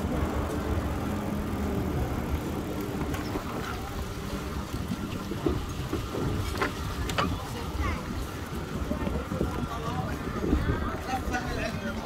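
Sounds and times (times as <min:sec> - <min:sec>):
bicycle rolling over paving: 0:00.0 - 0:12.0.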